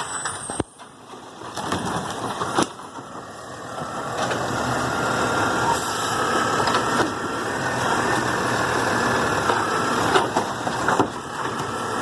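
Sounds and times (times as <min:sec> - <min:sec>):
garbage truck engine running: 0:00.0 - 0:12.0.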